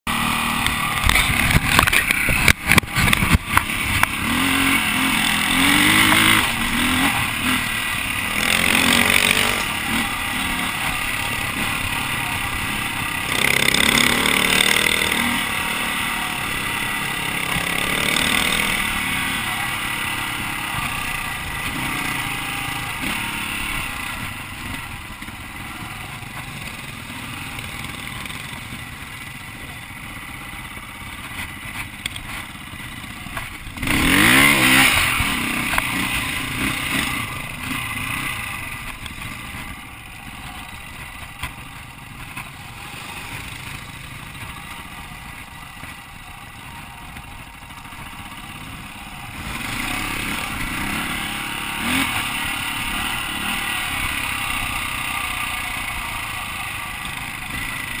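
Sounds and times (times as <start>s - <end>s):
dirt bike engine revving: 0.1s - 29.2s, 33.0s - 45.9s, 47.5s - 58.0s.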